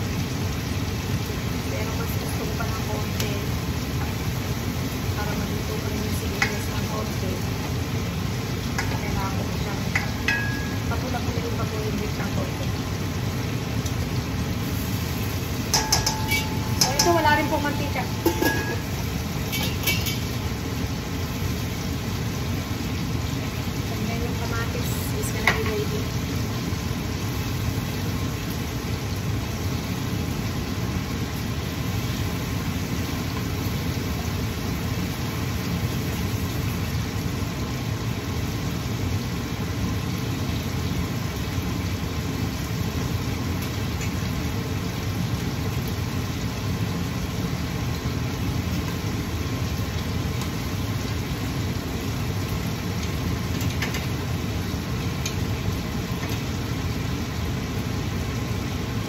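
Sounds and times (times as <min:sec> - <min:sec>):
range hood fan rumbling: 0:00.0 - 0:59.0.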